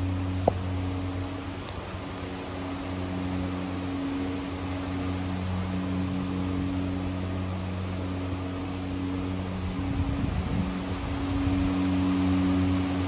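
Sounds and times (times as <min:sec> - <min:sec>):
held low tones: 0:00.0 - 0:13.0
low mechanical hum: 0:00.0 - 0:13.0.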